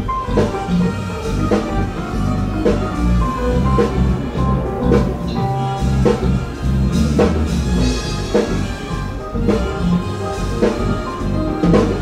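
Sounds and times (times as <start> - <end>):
drum and bass music: 0.0 - 12.0.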